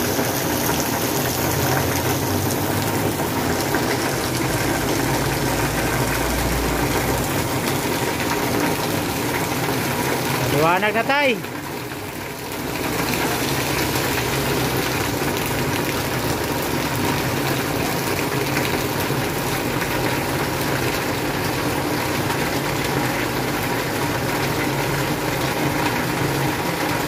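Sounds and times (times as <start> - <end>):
rushing floodwater and rain: 0.0 - 27.0.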